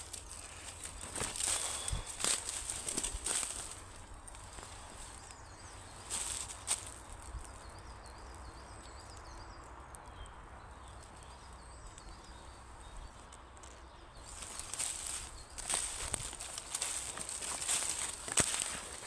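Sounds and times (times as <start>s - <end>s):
footsteps through undergrowth: 0.0s - 8.6s, 10.8s - 19.0s
faint high chirping calls: 0.0s - 19.0s.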